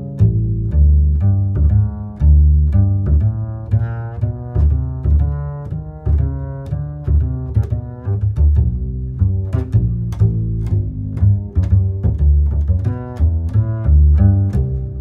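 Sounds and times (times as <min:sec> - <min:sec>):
deep bass line: 0:00.0 - 0:15.0.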